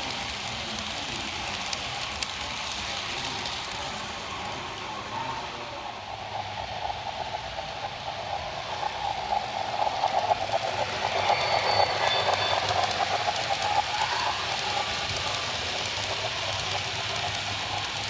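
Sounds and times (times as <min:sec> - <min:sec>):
model train wheels clattering on rails: 0:00.0 - 0:05.4, 0:06.6 - 0:18.0.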